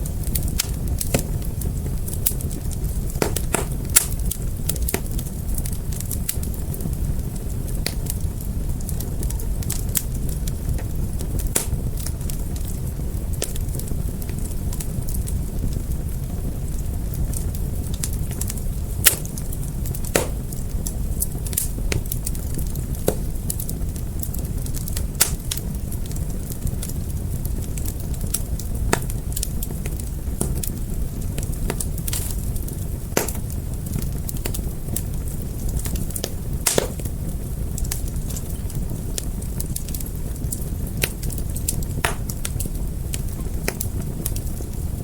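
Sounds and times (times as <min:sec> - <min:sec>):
fire crackling and popping: 0:00.0 - 0:45.0
wood fire flames rumbling: 0:00.0 - 0:45.0.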